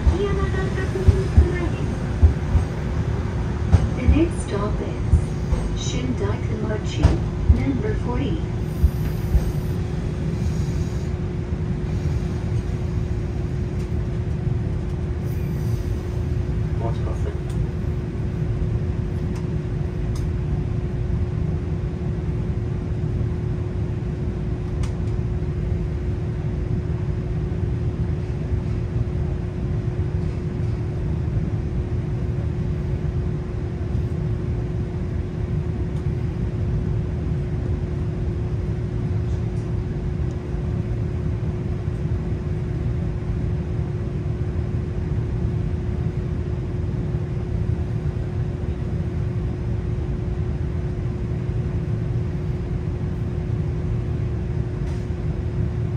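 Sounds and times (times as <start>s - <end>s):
constant hum: 0.0s - 55.9s
streetcar rumbling: 0.0s - 55.9s.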